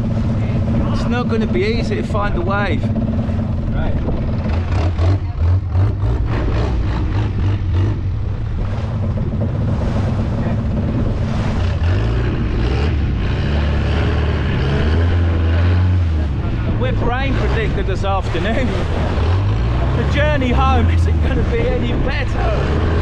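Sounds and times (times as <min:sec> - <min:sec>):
boat engine running: 0:00.0 - 0:23.0
rush of water and air: 0:00.0 - 0:23.0
wind buffeting microphone: 0:00.0 - 0:23.0.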